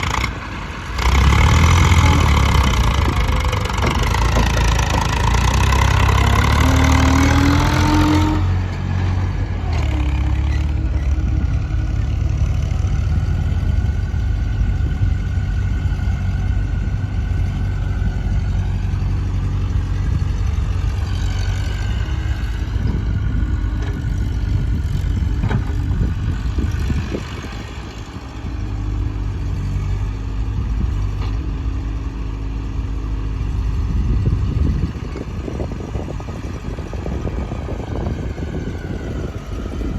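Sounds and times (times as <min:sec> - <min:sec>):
diesel engines running: 0:00.0 - 0:39.9
engine revving: 0:00.0 - 0:39.9.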